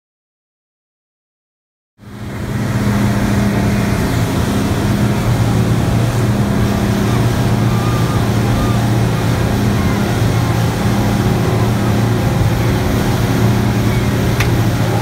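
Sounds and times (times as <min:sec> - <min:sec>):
outboard motor drone: 0:02.0 - 0:15.0
rushing water: 0:02.0 - 0:15.0
wind: 0:02.0 - 0:15.0.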